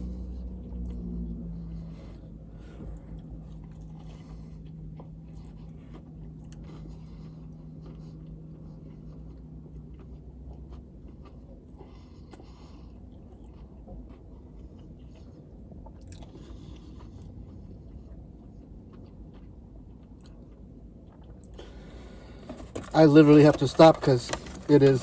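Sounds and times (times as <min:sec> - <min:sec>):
steady low hum: 0:00.0 - 0:25.0
person chewing crispy food: 0:02.0 - 0:25.0.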